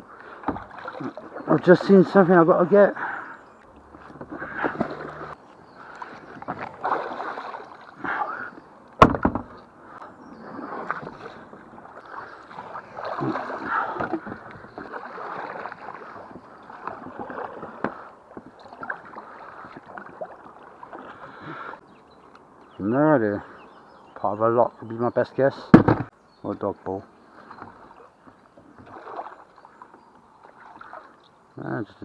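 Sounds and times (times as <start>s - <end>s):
kayak paddle strokes: 0.0s - 21.8s, 27.2s - 31.4s
water splashing around hull: 0.0s - 21.8s, 27.2s - 31.5s.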